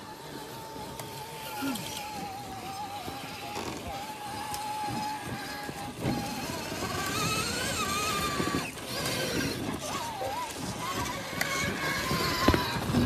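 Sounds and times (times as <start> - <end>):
electric motor and gears whining: 0.0 - 13.0
tyres scrabbling over roots: 0.3 - 13.0.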